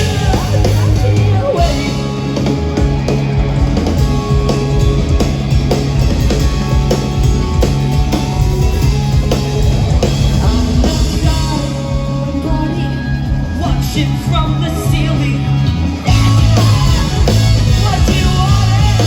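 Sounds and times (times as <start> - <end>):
rock music with electric guitar: 0.0 - 19.0.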